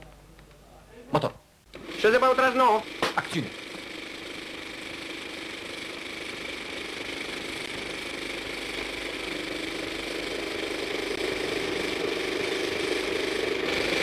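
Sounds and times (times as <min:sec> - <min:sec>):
film camera whirring: 0:01.7 - 0:14.0.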